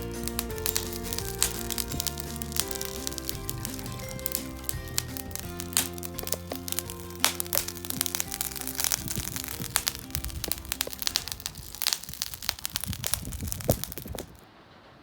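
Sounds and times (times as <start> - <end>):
background music: 0.0 - 12.2
fire crackling and popping: 0.0 - 14.4.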